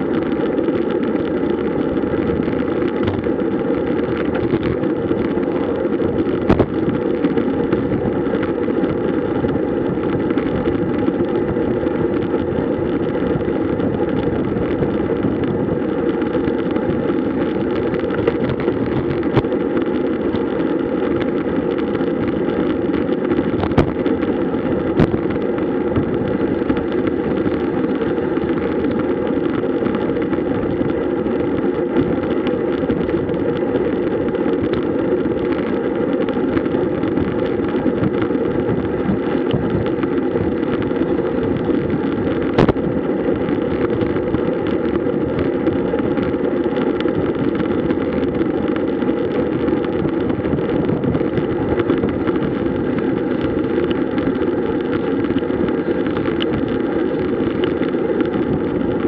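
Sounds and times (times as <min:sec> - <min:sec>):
bicycle tyre noise: 0:00.0 - 0:59.0
rushing wind: 0:00.0 - 0:59.0.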